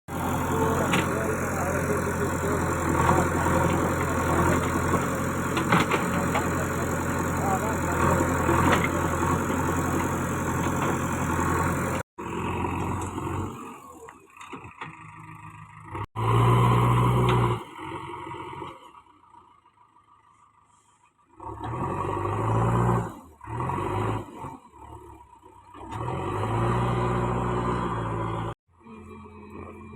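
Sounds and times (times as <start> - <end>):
heavy machinery engine humming: 0.1 - 19.4, 25.1 - 29.9.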